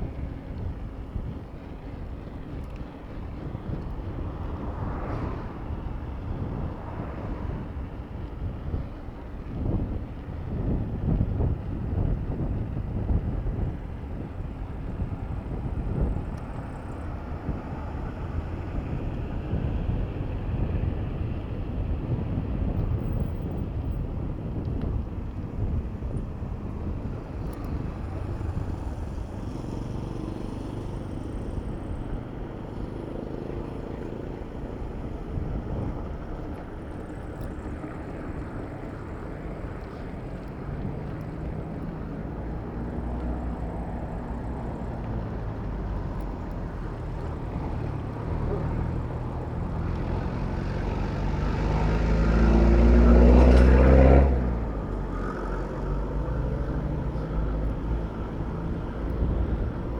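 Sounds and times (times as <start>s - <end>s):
hum of motor traffic: 0.0s - 59.9s
vehicle engine: 0.0s - 59.9s
wind rumbling on microphone: 0.0s - 59.9s.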